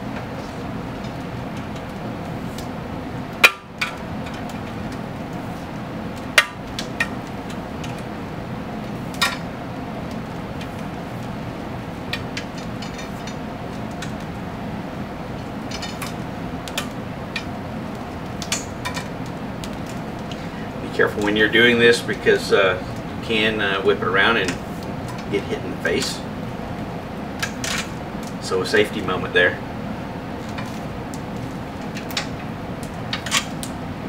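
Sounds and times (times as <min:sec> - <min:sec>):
room hum: 0:00.0 - 0:34.0.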